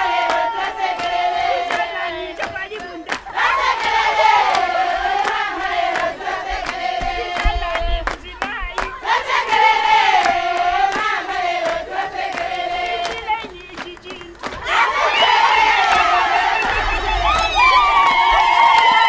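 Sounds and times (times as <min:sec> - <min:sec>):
high voices chanting in unison: 0:00.0 - 0:17.6.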